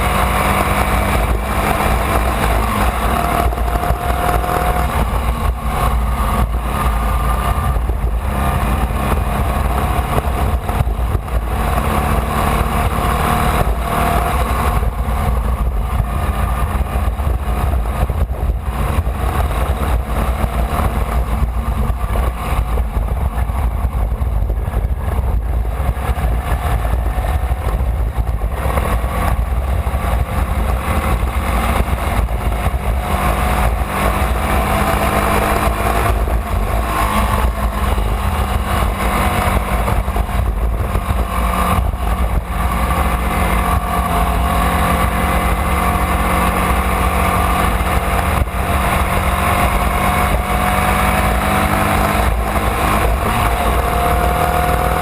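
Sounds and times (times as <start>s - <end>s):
race car engine at speed: 0.0s - 55.0s
wind rumble on microphone: 0.0s - 55.0s.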